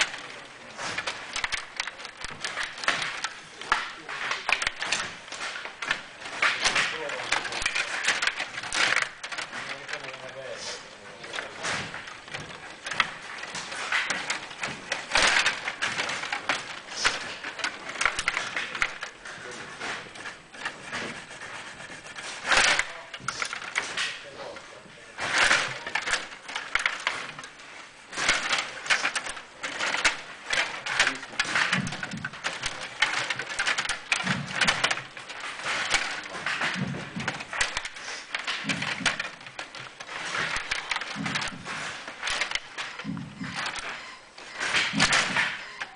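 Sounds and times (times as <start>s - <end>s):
table hockey plastic clattering: 0.0s - 45.9s.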